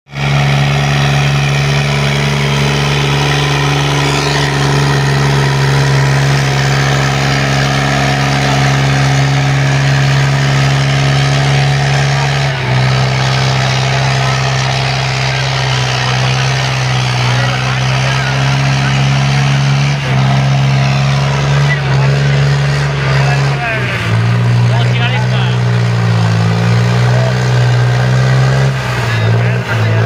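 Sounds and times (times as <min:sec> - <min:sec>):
tractor diesel engine running: 0:00.1 - 0:30.0.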